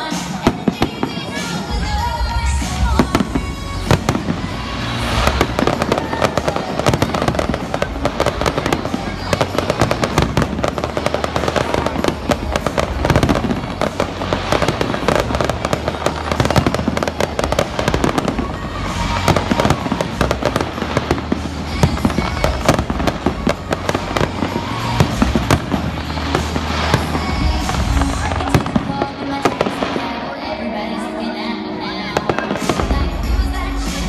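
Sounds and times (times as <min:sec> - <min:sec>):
firework crackles: 0:00.0 - 0:34.0
fireworks bursting: 0:00.0 - 0:34.0.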